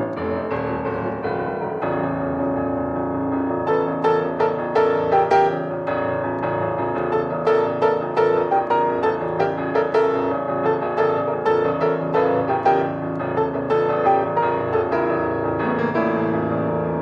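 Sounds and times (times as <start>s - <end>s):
lively piano playing: 0.0s - 17.0s.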